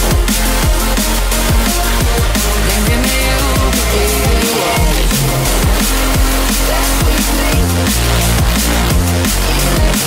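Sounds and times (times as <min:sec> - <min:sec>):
kick drum: 0:00.0 - 0:06.4, 0:07.0 - 0:09.2
electronic dance music: 0:00.0 - 0:10.0
heavy bassline: 0:00.0 - 0:10.0.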